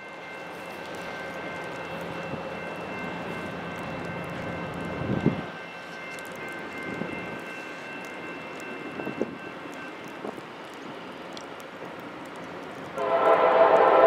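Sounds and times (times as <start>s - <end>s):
diesel locomotive approaching: 0.0s - 14.0s.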